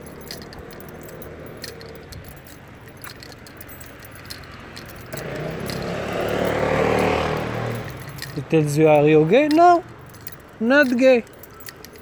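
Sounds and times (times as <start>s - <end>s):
small clicks and light rattles: 0.0s - 12.0s.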